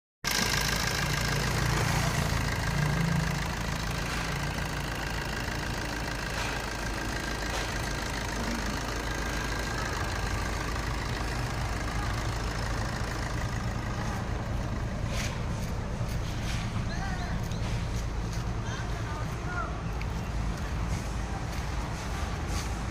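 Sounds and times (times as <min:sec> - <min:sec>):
car engine idling: 0:00.2 - 0:22.9.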